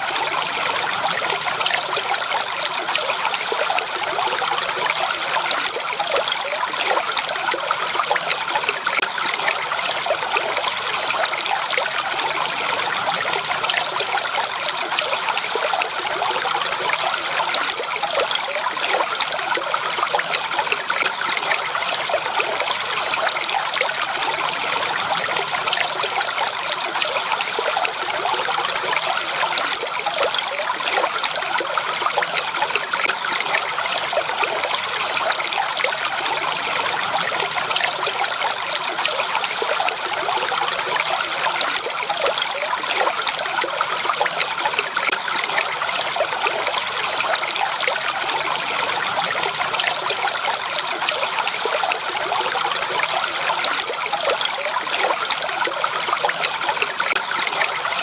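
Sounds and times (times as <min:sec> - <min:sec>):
stream water babbling over stones: 0:00.0 - 0:58.0.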